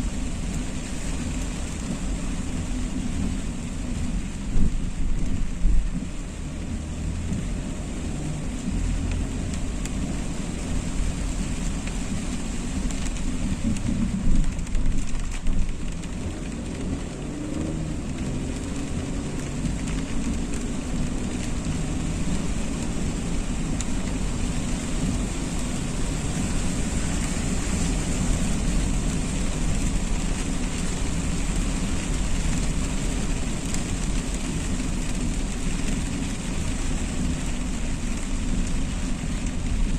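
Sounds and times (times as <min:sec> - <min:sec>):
rain on a car: 0:00.0 - 0:39.9
road and engine rumble: 0:00.0 - 0:39.9.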